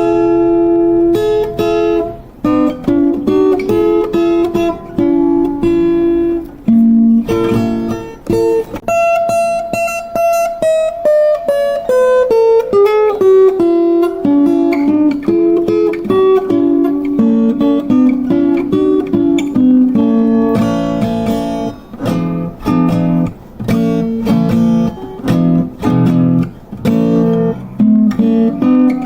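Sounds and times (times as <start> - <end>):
acoustic guitar melody: 0.0 - 29.0.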